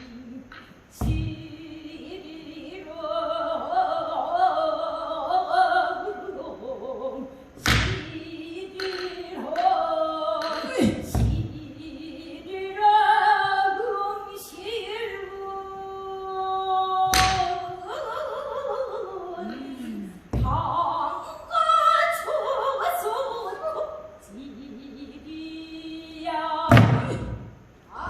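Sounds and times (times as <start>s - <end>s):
solo voice singing: 0.0s - 28.0s.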